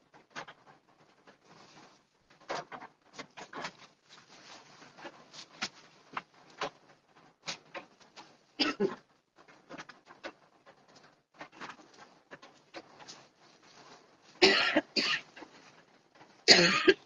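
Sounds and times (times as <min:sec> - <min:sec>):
cloth rustling: 0:01.2 - 0:08.6, 0:09.5 - 0:16.4
plastic bag rustling: 0:01.2 - 0:16.4.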